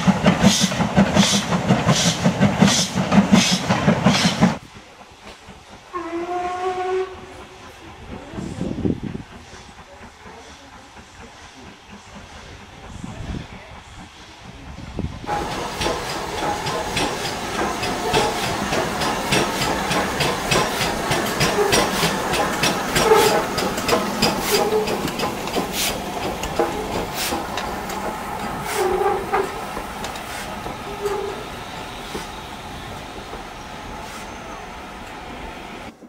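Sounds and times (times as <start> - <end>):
clanks from locomotive wheels: 0.0 - 13.0, 14.0 - 35.2
steam hissing: 0.0 - 36.0
steam locomotive passing: 0.0 - 36.0.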